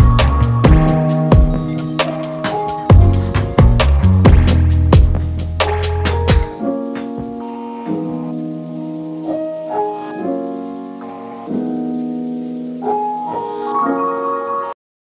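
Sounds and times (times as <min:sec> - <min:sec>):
slow piano chords: 0:00.0 - 0:14.8.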